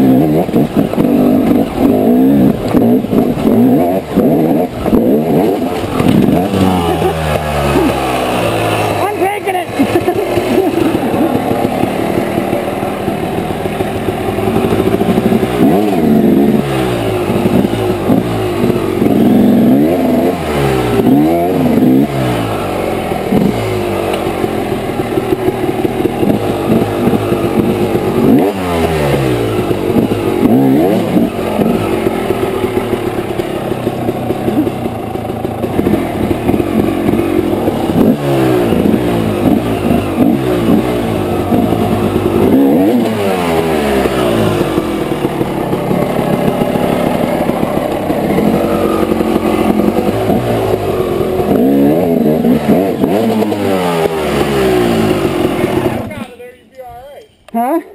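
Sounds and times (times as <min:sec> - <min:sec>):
dirt bike engine revving: 0:00.0 - 0:56.3.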